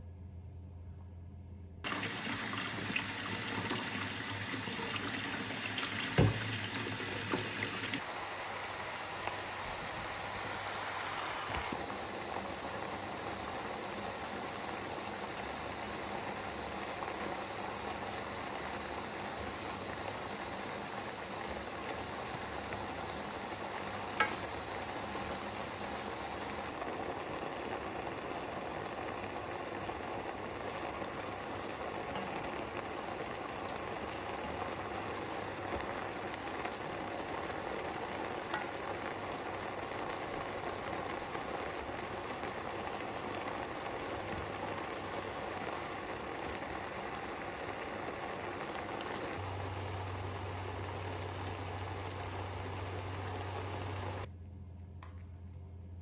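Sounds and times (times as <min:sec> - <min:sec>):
hotpot sizzling and bubbling: 0:01.9 - 0:54.3.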